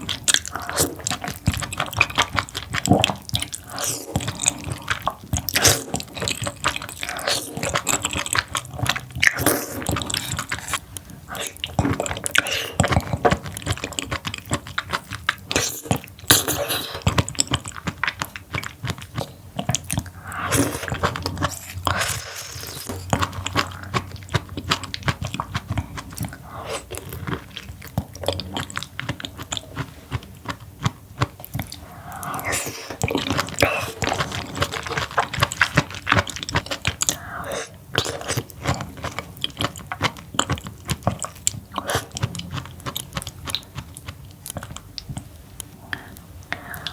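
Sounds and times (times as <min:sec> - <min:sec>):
person chewing seafood: 0:00.0 - 0:46.9
smeared mouth sounds: 0:00.0 - 0:46.9.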